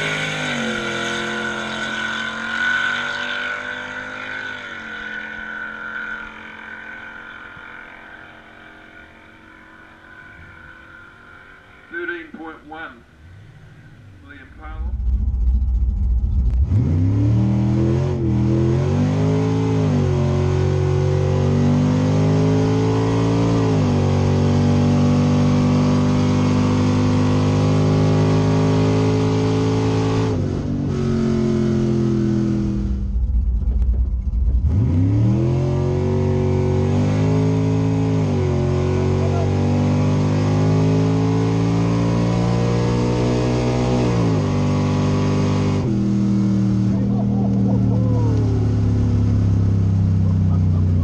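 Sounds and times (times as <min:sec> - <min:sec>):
car engine accelerating hard: 0:00.0 - 0:51.0.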